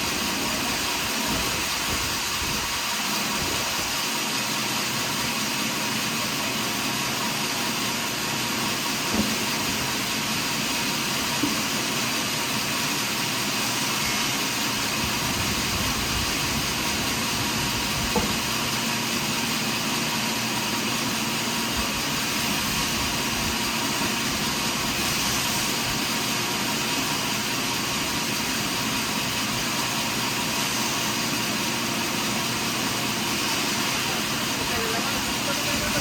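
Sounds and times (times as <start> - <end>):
sawmill machinery running: 0.0 - 36.0.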